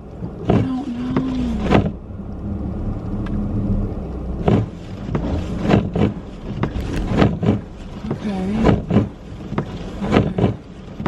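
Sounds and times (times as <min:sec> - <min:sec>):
car engine humming from cabin: 0:00.0 - 0:11.0.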